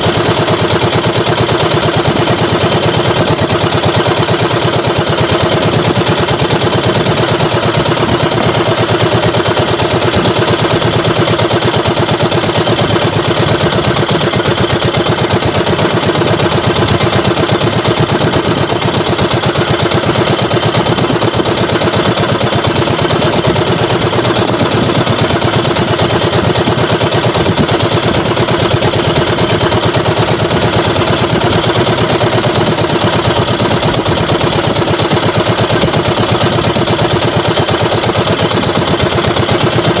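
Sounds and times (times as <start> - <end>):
small boat engine idling: 0.0 - 40.0.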